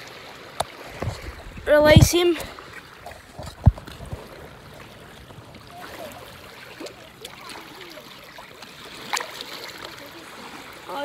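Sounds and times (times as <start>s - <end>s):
water lapping over rocks: 0.0s - 11.0s.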